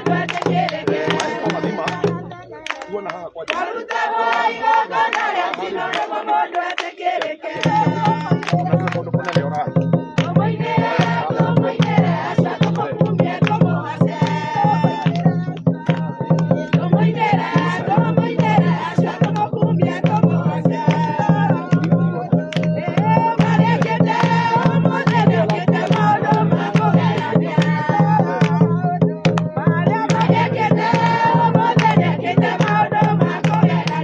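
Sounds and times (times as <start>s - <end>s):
congregation singing: 0.0s - 34.0s
percussive beat: 0.0s - 34.0s.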